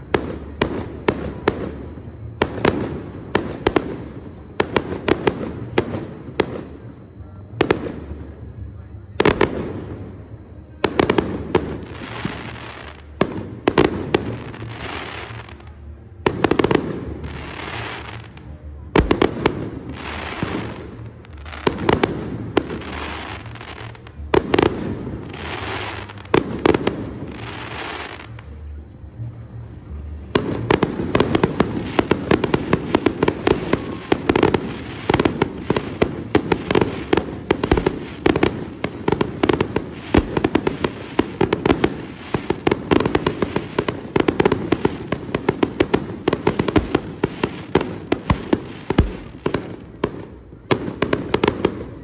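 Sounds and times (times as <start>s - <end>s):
fireworks barrage bangs and crackles: 0.0s - 52.0s.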